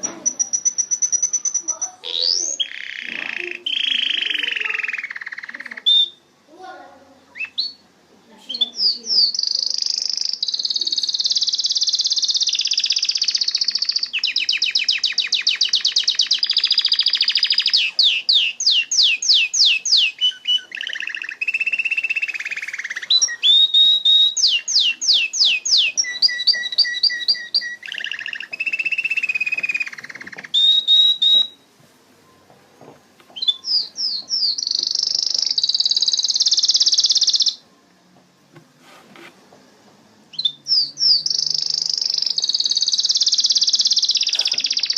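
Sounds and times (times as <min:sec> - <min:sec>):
canary singing: 0:00.0 - 0:37.9, 0:40.3 - 0:44.9.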